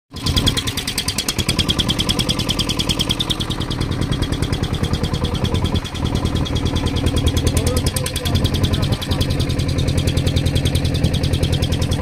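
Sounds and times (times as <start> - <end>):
boat engine thudding: 0.1 - 12.0.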